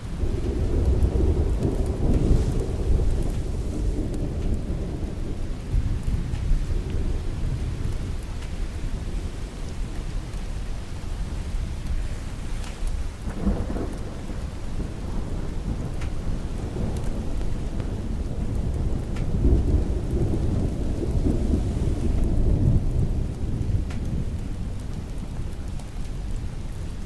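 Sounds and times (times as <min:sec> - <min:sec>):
rolling thunder: 0:00.0 - 0:27.0
steady rain: 0:00.0 - 0:27.0.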